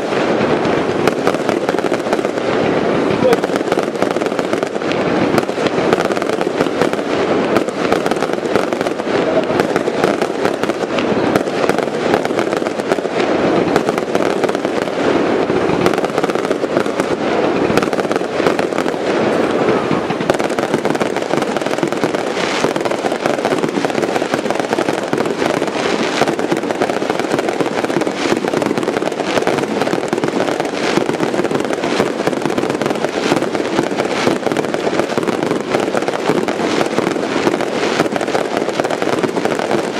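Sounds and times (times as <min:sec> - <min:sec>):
fireworks bursting and crackling: 0:00.0 - 0:39.9
sharp firework reports: 0:00.0 - 0:39.9.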